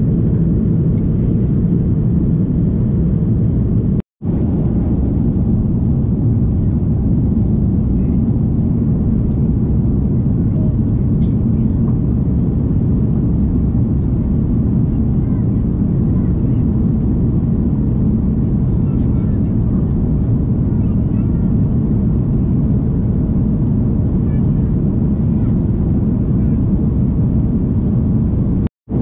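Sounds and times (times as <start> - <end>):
jet engines and airflow rumble: 0.0 - 29.0.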